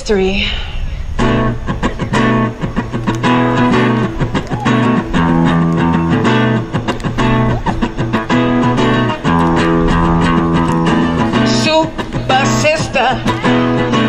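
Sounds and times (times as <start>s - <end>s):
acoustic guitar strumming: 1.2s - 14.0s.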